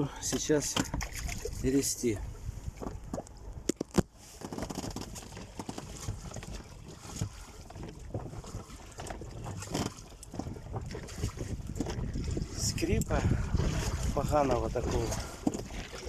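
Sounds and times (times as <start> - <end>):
oars knocking in oarlocks: 0.2 - 1.6, 2.8 - 12.6, 13.5 - 16.0
oar strokes in water: 0.2 - 16.0
wind noise on microphone: 0.4 - 16.0.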